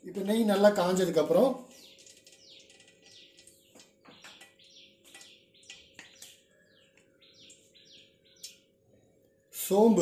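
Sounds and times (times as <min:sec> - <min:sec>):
bird chirping: 0:00.1 - 0:10.0.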